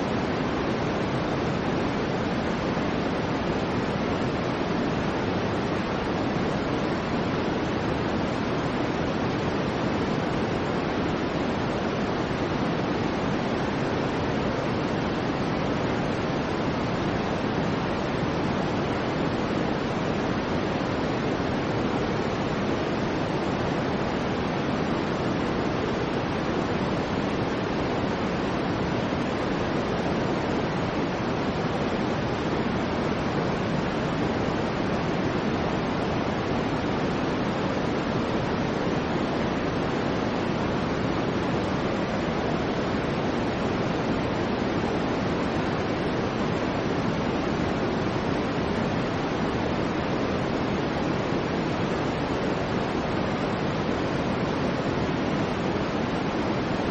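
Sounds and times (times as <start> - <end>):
low white noise rush: 0.0 - 56.9.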